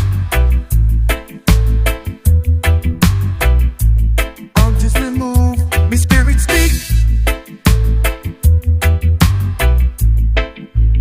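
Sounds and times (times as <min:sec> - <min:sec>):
instrumental reggae music: 0:00.0 - 0:11.0.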